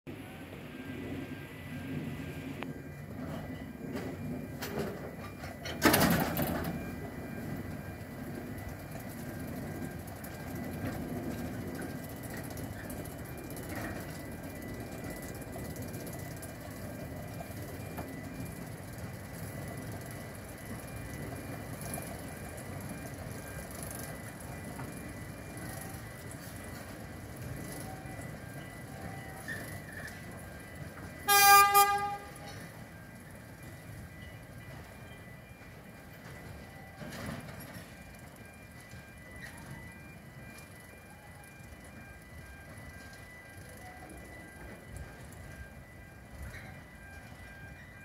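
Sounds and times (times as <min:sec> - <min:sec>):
diesel locomotives rumbling: 0:00.1 - 0:48.0.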